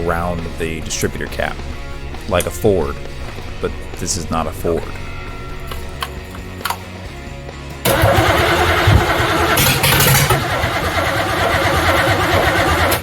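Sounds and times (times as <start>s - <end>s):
car engine starting and running: 0.0s - 13.0s.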